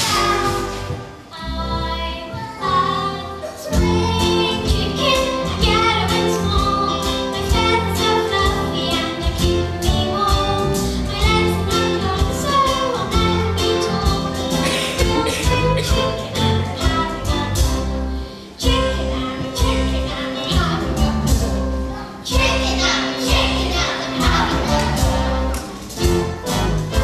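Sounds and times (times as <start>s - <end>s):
children singing together: 0.0s - 17.8s, 18.6s - 25.8s
instrumental accompaniment: 0.0s - 27.0s.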